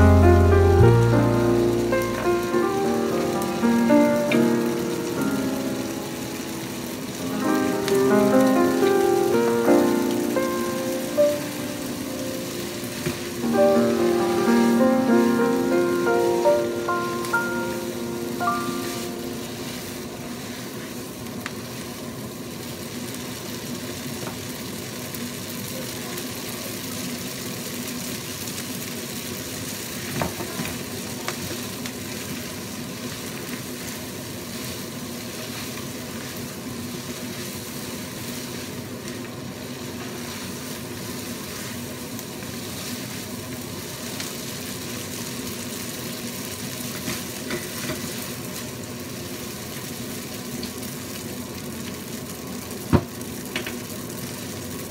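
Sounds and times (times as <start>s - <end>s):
food sizzling in frying pan: 0.0s - 54.9s.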